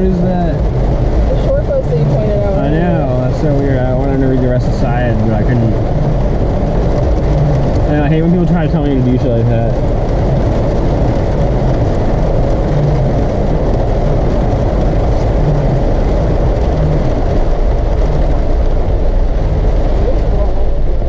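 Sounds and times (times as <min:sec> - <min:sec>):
car engine and tyre rumble: 0:00.0 - 0:21.0
constant road hiss: 0:00.0 - 0:21.0.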